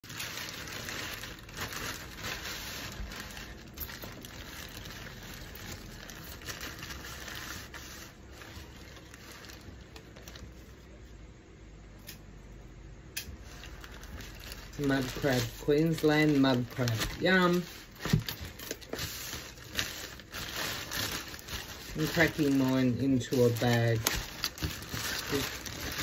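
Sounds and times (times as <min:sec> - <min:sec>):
plastic bag rustling: 0:00.0 - 0:10.9, 0:13.4 - 0:26.0.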